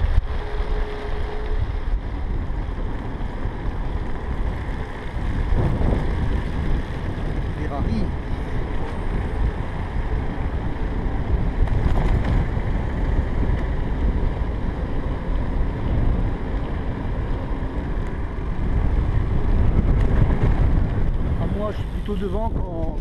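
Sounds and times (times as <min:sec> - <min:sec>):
road rumble: 0:00.0 - 0:23.0
wind rushing over microphone: 0:00.0 - 0:23.0.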